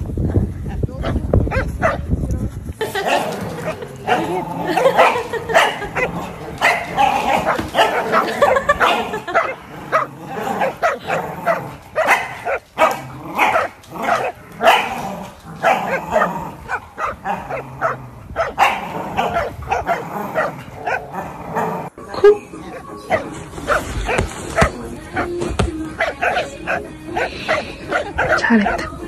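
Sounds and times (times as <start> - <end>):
dogs barking and yipping: 1.0 - 2.1, 2.8 - 29.0.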